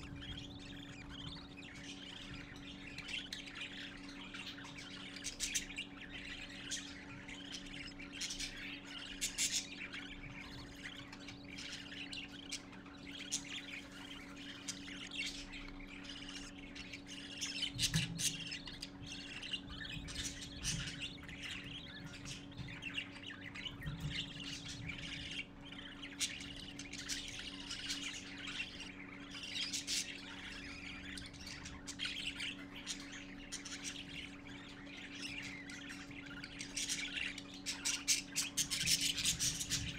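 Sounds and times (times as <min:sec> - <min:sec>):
budgerigar chicks chirping: 0:00.0 - 0:39.9
steady low hum: 0:00.0 - 0:39.9.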